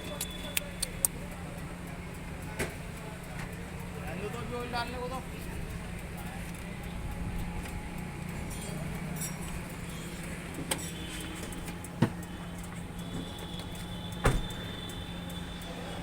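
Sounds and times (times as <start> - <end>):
sharp metallic clicks: 0.0 - 16.0
steady low hum: 0.0 - 16.0.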